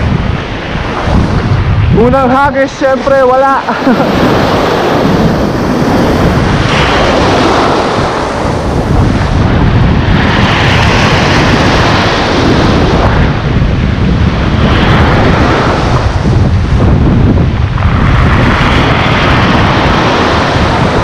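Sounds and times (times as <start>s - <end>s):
waves breaking surf: 0.0s - 21.0s
wind buffeting microphone: 0.0s - 21.0s.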